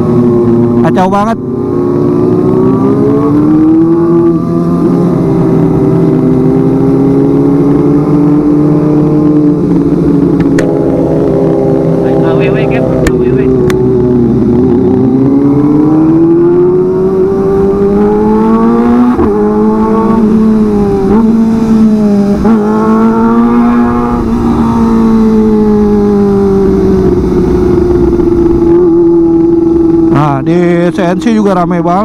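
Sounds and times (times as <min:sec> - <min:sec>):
motorcycle engine high revs: 0:00.0 - 0:31.3.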